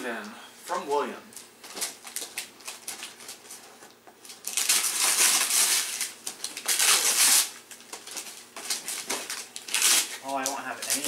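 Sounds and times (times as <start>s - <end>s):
paper crinkling: 1.3s - 11.0s
wrapping paper ripping: 1.7s - 11.0s.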